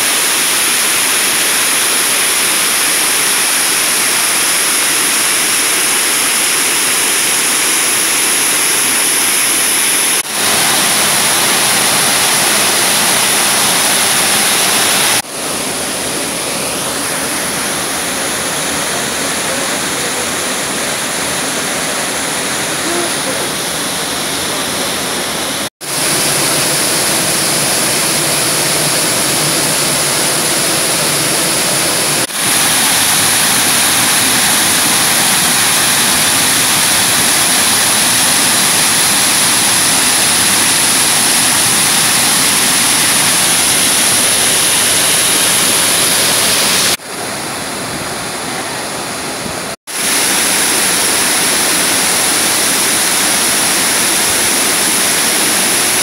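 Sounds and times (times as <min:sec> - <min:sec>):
waterfall crashing onto rocks: 0:00.0 - 0:56.0.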